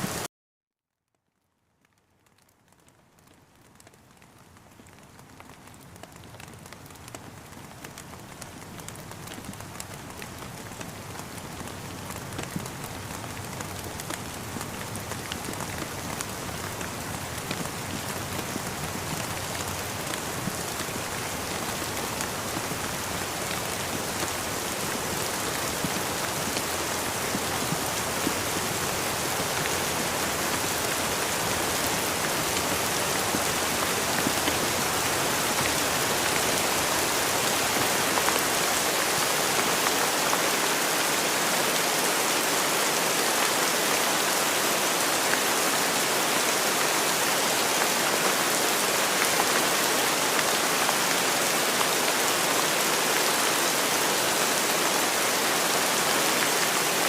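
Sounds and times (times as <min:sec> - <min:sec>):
steady rain falling: 0:00.0 - 0:00.3, 0:01.1 - 0:57.0.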